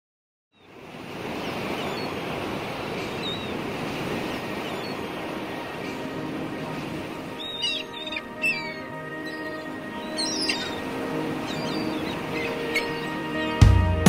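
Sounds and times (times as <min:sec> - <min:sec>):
waves splashing against pier: 0:00.6 - 0:13.7.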